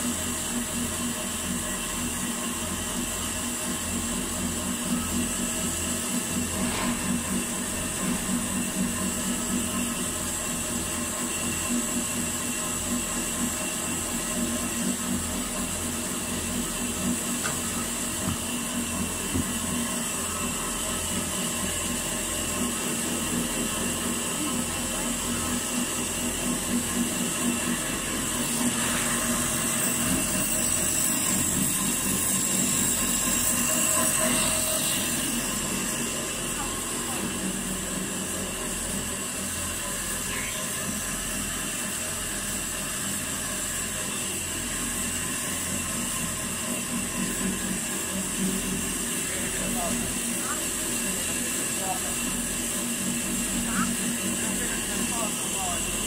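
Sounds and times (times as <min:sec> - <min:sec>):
factory machinery humming: 0:00.0 - 0:56.0.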